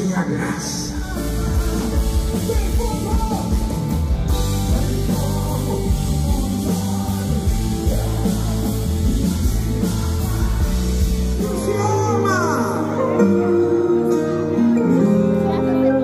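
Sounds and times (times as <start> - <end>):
gospel band playing: 0.0 - 16.0
voices singing: 0.7 - 14.2.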